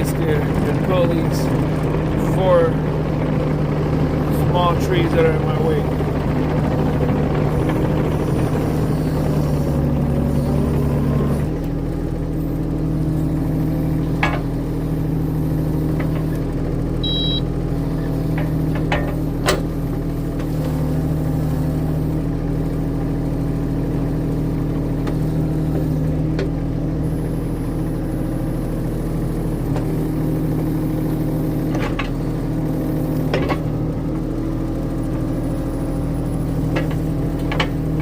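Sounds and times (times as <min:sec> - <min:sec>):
skid steer engine running: 0:00.0 - 0:38.0.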